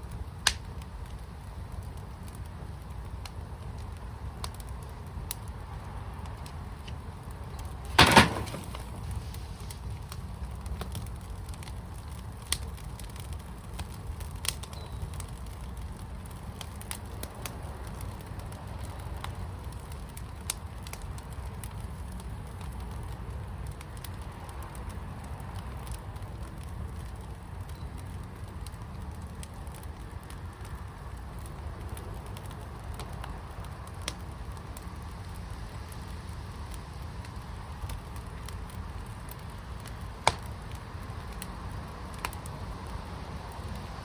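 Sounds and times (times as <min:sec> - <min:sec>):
fire crackling and popping: 0:00.0 - 0:44.0.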